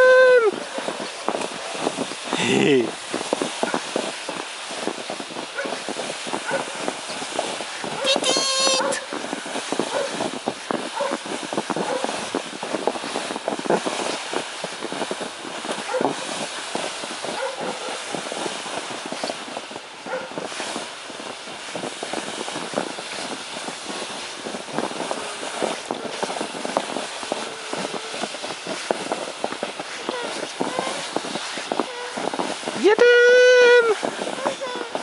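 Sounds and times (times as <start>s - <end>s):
plastic sled scraping over snow: 0.0s - 35.0s.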